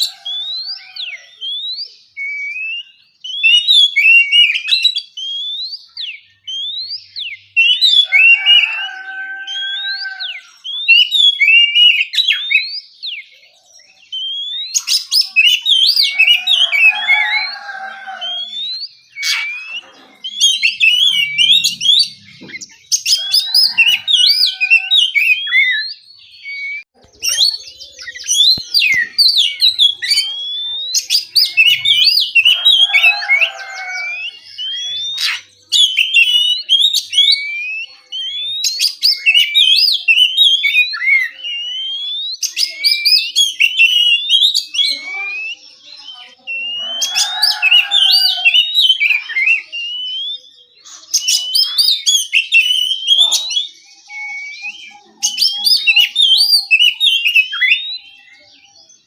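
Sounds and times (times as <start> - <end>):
bird singing whistled notes: 0.0 - 59.0.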